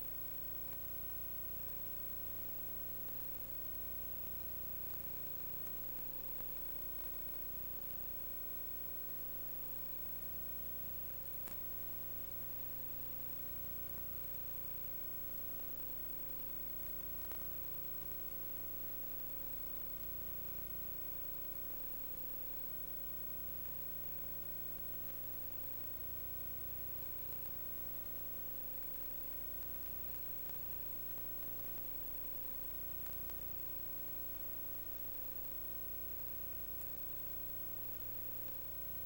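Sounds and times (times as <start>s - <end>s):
constant hiss: 0.0s - 39.0s
electrical hum: 0.0s - 39.0s.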